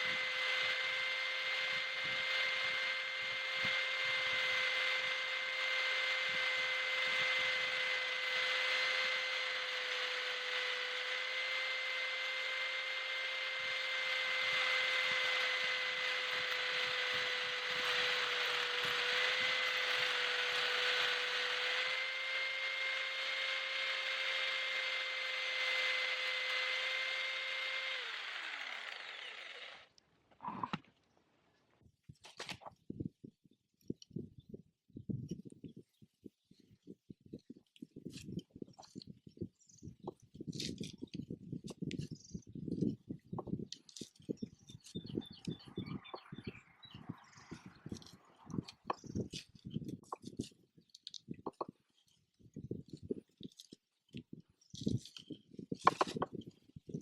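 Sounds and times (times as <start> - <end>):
power tool grinding and winding down: 0.0 - 30.8, 37.4 - 57.0.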